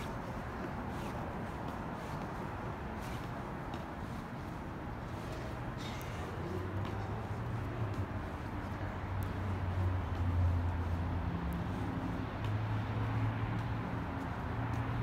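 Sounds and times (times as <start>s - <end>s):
city traffic rush: 0.0s - 15.0s.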